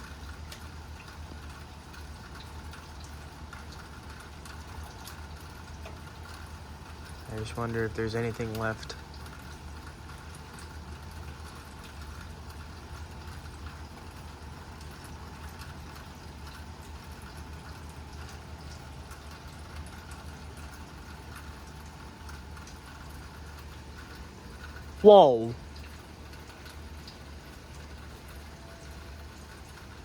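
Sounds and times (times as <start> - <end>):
constant low hum: 0.0 - 30.0
rain falling: 0.0 - 30.0.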